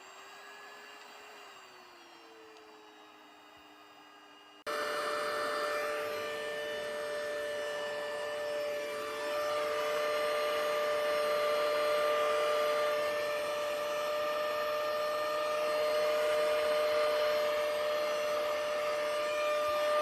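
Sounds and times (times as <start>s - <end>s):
handheld vacuum cleaner running: 0.0s - 20.0s.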